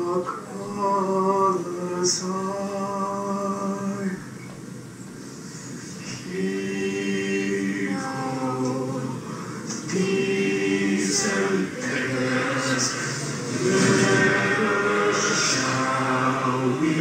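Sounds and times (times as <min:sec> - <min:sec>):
voices singing a cappella: 0:00.0 - 0:04.3, 0:06.0 - 0:17.0.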